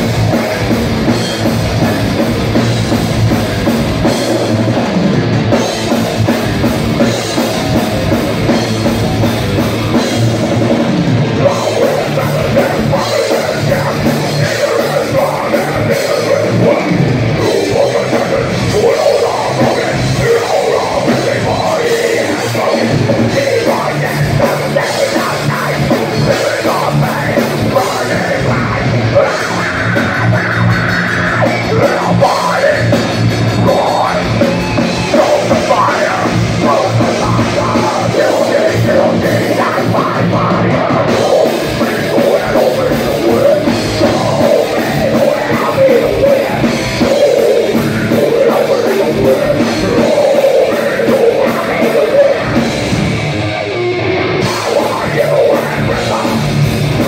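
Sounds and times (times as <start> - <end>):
bass guitar: 0.0 - 57.0
drum kit: 0.0 - 57.0
electric guitars: 0.0 - 57.0
person singing: 9.9 - 57.0.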